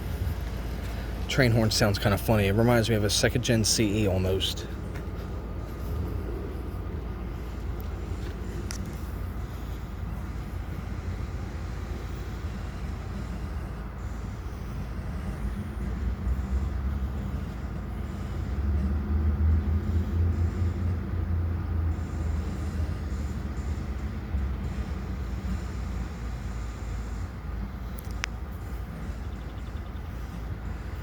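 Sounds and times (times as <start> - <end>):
locomotive engine rumble: 0.0 - 31.0.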